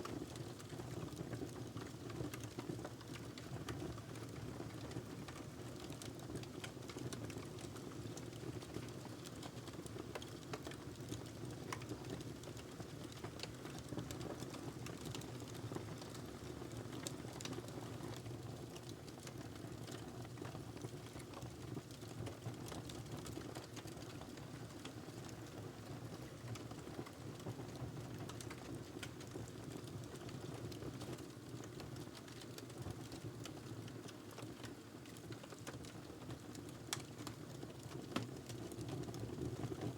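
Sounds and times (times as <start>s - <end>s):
fire crackling and popping: 0.2s - 25.6s, 26.2s - 39.7s.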